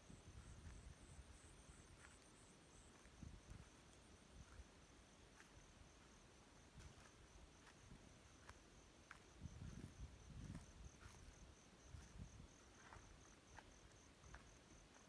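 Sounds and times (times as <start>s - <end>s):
faint cricket chirping: 0.0s - 15.0s.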